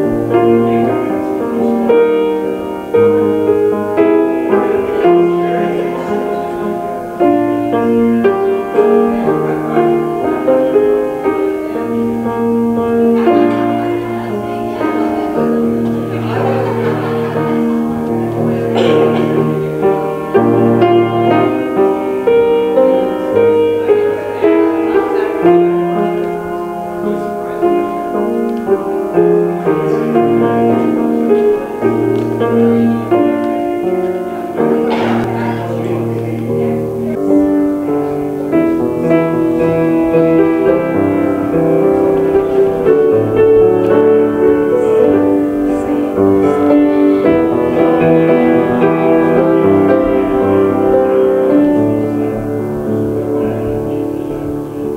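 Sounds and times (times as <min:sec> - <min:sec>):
slow keyboard chords: 0:00.0 - 0:54.9.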